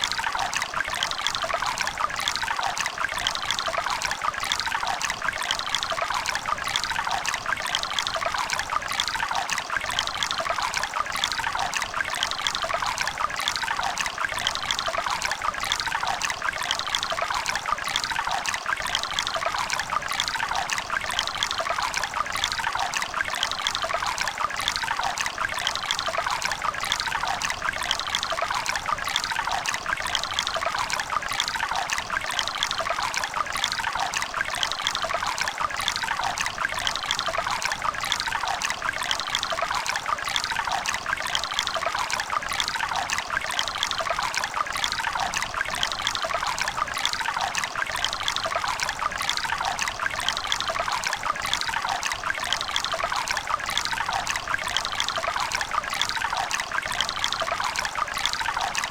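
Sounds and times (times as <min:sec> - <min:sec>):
stream water burbling: 0:00.0 - 0:58.9.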